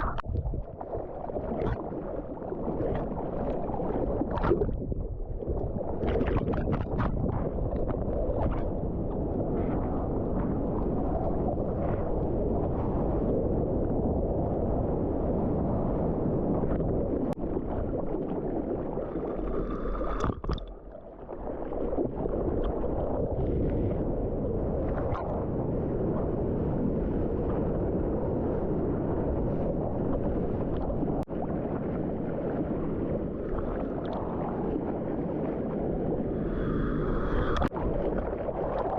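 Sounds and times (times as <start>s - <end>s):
sea water sloshing and splashing: 0.0s - 38.9s
wind on microphone: 0.0s - 38.9s.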